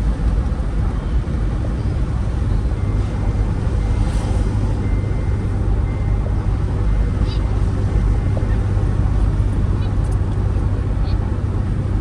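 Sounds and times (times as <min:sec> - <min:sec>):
vehicle rumbling on road: 0:00.0 - 0:12.0.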